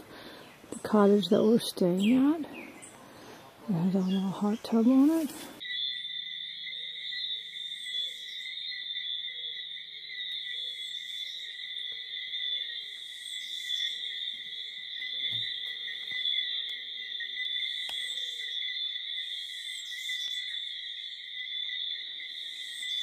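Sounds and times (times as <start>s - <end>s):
tree frogs and insects shrilling: 0.0s - 23.0s.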